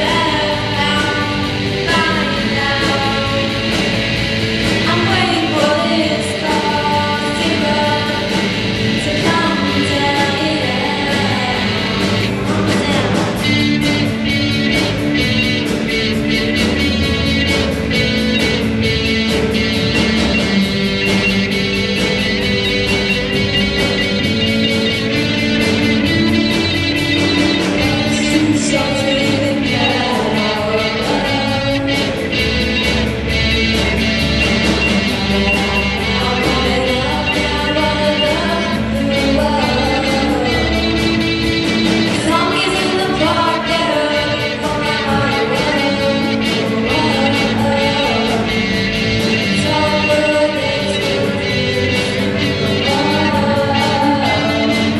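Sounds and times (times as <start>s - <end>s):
electric guitar: 0.0s - 54.9s
person singing: 0.0s - 54.9s
steady drum beat: 0.0s - 54.9s.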